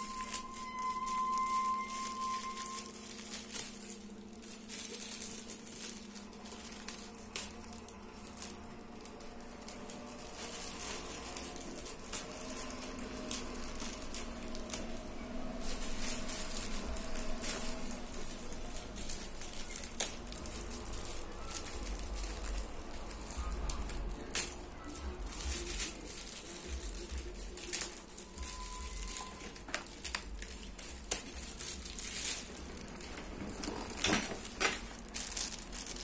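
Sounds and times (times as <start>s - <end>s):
backpack rustling: 0.0s - 36.0s
faint steady hum: 0.0s - 36.0s.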